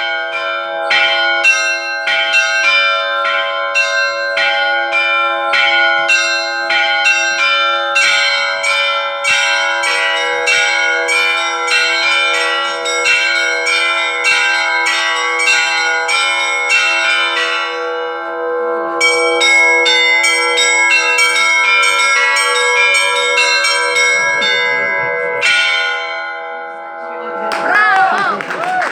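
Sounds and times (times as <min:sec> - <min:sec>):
church bells ringing: 0:00.0 - 0:28.9.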